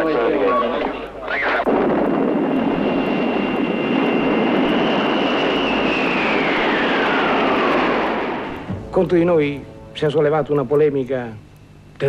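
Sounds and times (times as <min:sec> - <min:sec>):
jet engines rushing: 0:00.0 - 0:10.6
high engine whine: 0:00.0 - 0:12.0.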